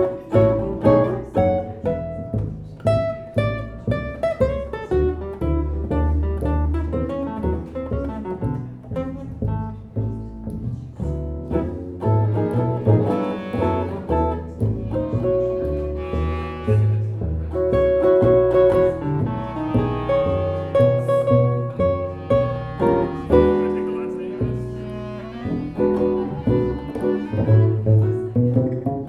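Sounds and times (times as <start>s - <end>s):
guitar: 0.0s - 29.0s
plucked bass line: 0.0s - 29.0s
small live band playing: 0.0s - 29.0s.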